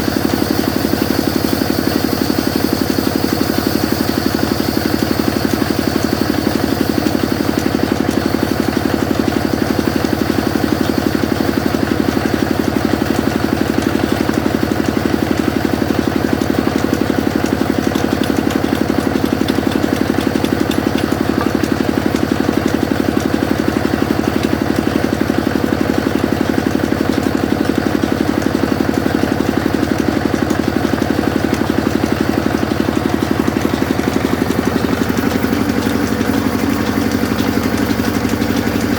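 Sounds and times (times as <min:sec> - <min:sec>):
sawmill machine running: 0:00.0 - 0:38.9.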